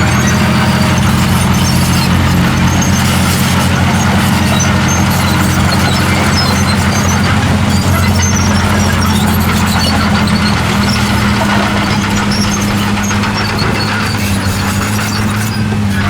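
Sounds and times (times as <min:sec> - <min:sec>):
diesel engine humming under load: 0:00.0 - 0:16.0.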